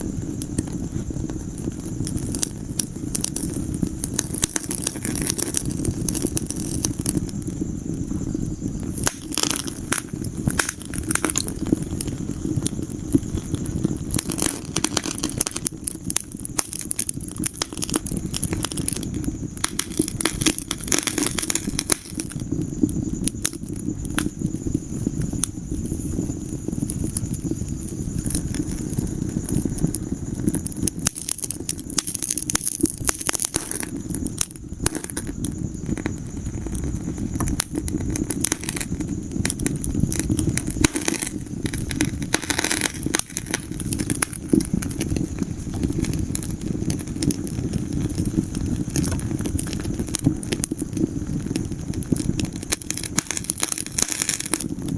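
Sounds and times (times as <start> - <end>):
low fire rumble: 0.0 - 54.9
sharp fire pops and snaps: 0.0 - 54.9
wood fire crackling: 0.0 - 54.9.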